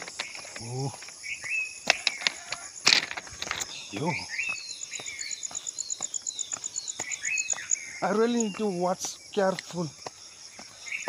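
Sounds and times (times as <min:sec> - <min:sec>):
birds chirping: 0:00.0 - 0:11.0
cricket pulsing: 0:00.0 - 0:11.0
footsteps crunching on stone ballast: 0:00.0 - 0:11.0.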